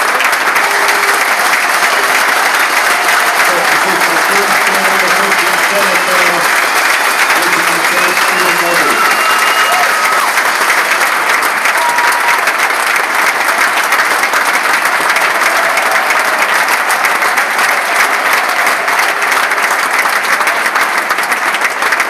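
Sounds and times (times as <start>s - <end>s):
crowd clapping: 0.0s - 22.0s.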